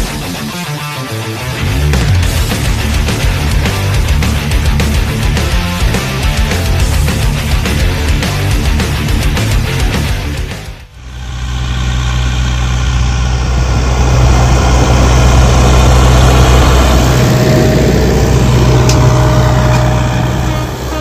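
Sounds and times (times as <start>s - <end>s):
tractor diesel engine running: 1.6s - 21.0s.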